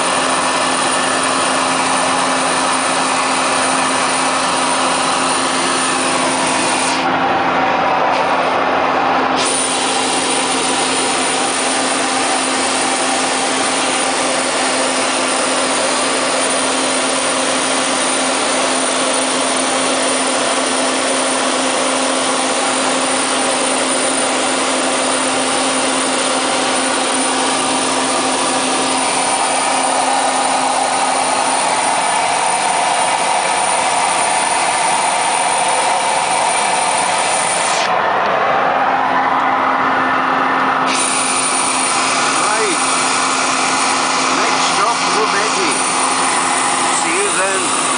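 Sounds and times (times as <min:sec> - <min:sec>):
propeller aircraft cabin drone: 0:00.0 - 0:47.9.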